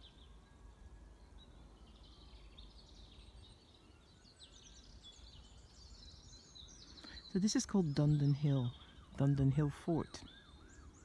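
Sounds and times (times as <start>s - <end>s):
small birds chirping and trilling: 0.0s - 11.0s.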